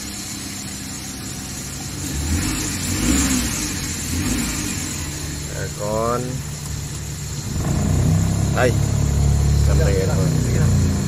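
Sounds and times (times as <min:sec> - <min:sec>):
small van engine idling: 0:00.0 - 0:11.0.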